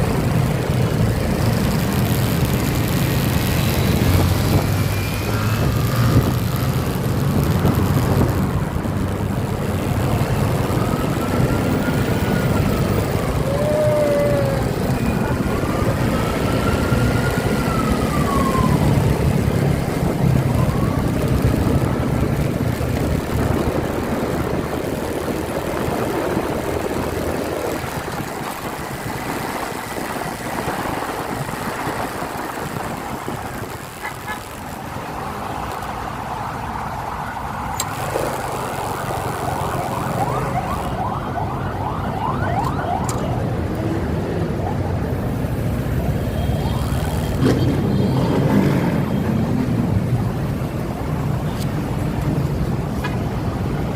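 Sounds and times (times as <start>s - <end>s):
road noise: 0.0s - 53.9s
traffic: 0.0s - 53.9s
wind noise: 0.0s - 53.9s.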